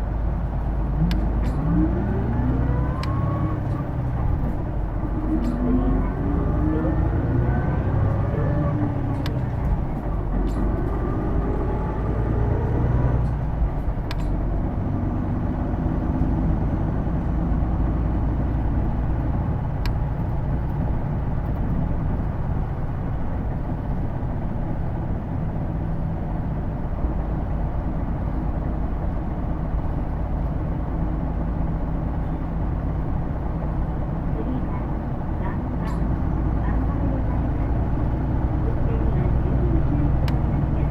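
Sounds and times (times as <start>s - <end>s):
bus diesel engine: 0.0s - 40.9s.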